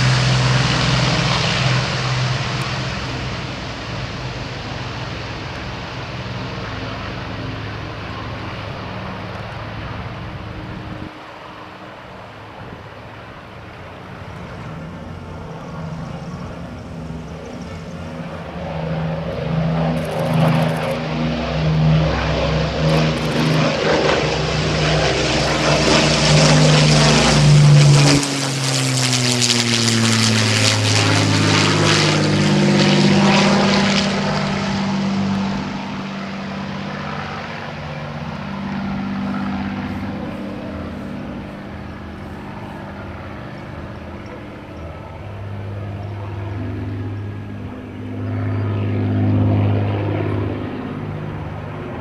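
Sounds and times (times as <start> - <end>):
propeller aircraft engines droning: 0.0 - 52.0.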